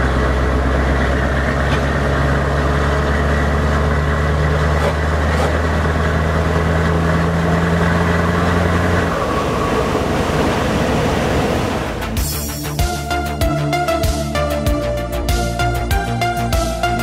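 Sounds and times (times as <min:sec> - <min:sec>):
deep diesel engine drone: 0:00.0 - 0:17.0.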